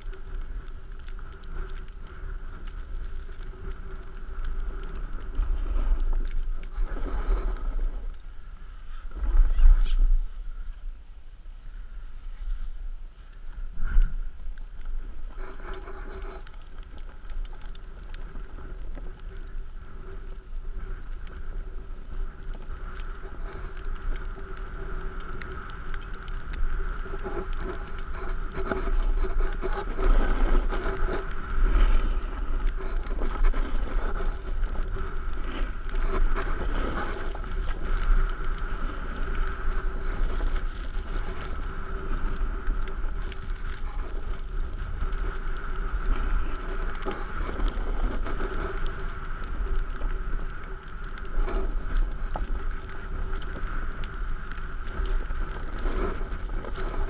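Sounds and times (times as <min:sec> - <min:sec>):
snowboard scraping over snow: 0:00.0 - 0:10.5, 0:15.4 - 0:57.0
low microphone rumble: 0:00.0 - 0:57.0.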